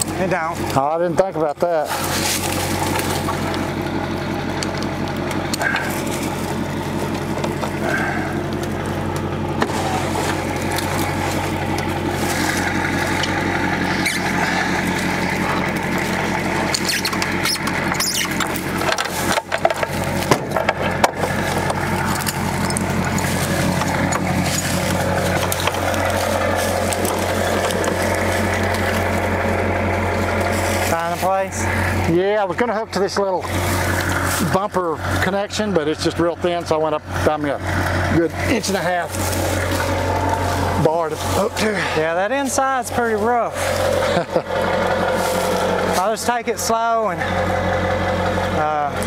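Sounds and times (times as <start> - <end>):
vehicle engine idling: 0.0 - 49.0.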